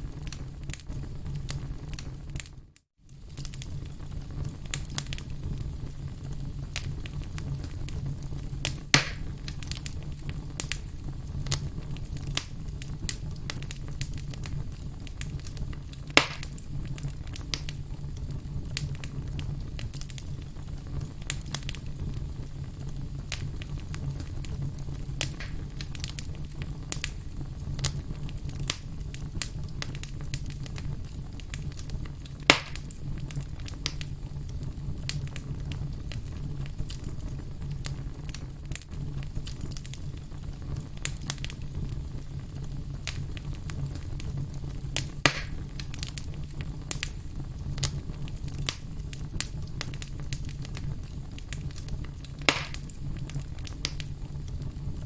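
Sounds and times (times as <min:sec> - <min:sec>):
firewood crackling: 0:00.0 - 0:55.0
low fire rumble: 0:00.0 - 0:55.0
sharp fire pops: 0:00.0 - 0:55.0.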